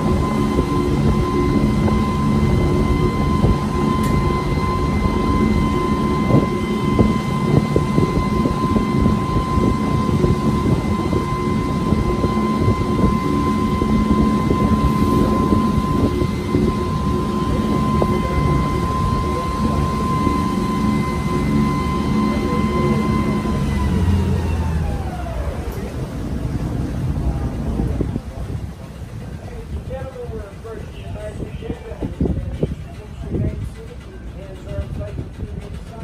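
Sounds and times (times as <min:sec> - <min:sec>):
boat engine droning and whining: 0:00.0 - 0:36.0
water rushing past hull: 0:00.0 - 0:36.0
wind: 0:00.0 - 0:36.0.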